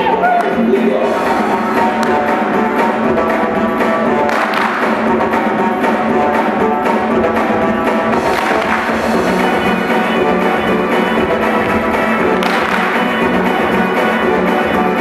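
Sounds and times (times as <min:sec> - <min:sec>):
dance workout music: 0:00.0 - 0:15.0.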